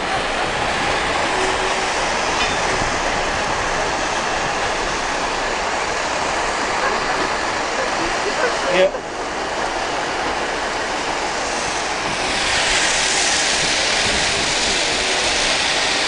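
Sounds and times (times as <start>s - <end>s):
train coaches rolling on rails: 0.0s - 16.0s.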